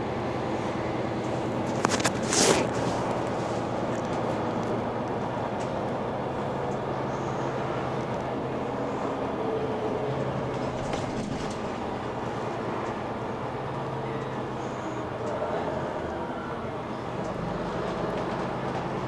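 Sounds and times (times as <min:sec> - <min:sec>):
bus mechanical hum: 0:00.0 - 0:19.0.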